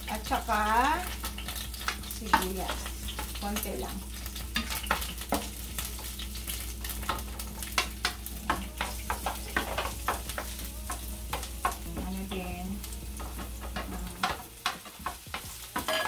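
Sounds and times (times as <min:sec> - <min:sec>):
crackles and scrapes in a pan: 0:00.0 - 0:16.0
garlic and onion sizzling in oil: 0:00.0 - 0:16.0.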